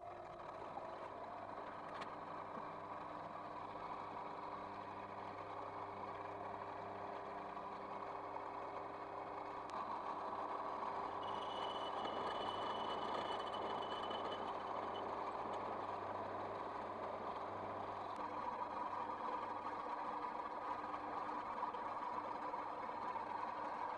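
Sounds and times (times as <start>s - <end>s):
lathe motor humming: 3.0s - 23.6s.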